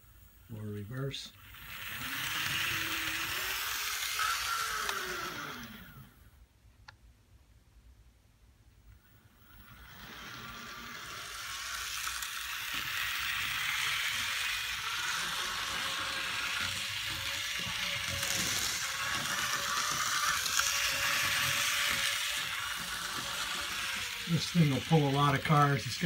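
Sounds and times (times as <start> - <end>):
faint steady whine: 0.0 - 26.0
model train whirring rattle: 0.9 - 6.1, 9.0 - 26.0.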